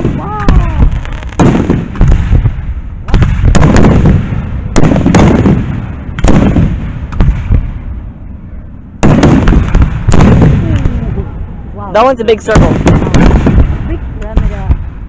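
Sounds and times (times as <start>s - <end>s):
firework bangs with rumbling echo: 0.0s - 8.1s, 9.0s - 15.0s.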